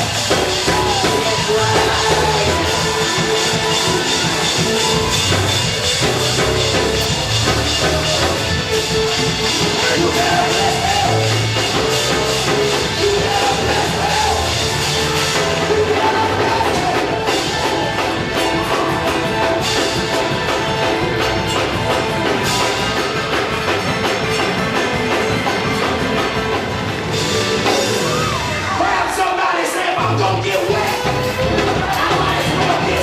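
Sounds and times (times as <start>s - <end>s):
drums and percussion: 0.0s - 33.0s
lively church praise music: 0.0s - 33.0s.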